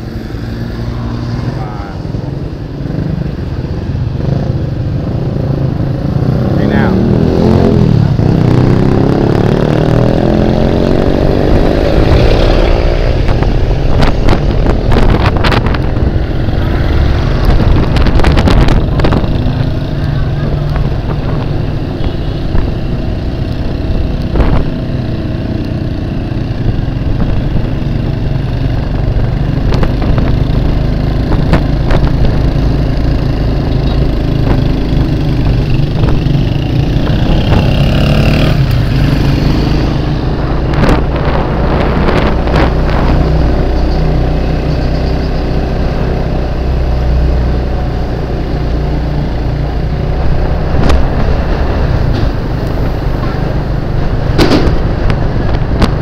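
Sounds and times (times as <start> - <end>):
motorcycle engine running: 0.0 - 56.0
street traffic: 0.0 - 56.0.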